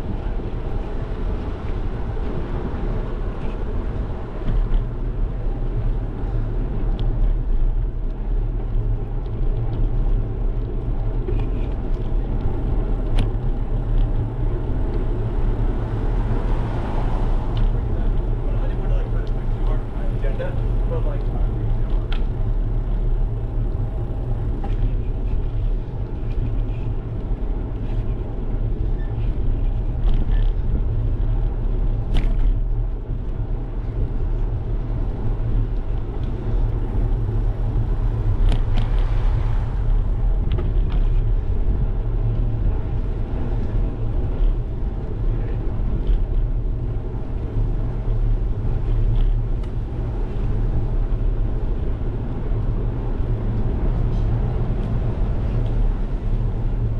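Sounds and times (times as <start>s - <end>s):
bicycle tyres on asphalt: 0.0s - 56.9s
wind noise on microphone: 0.0s - 56.9s
bike clicks and rattles: 1.1s - 16.5s, 17.5s - 56.9s.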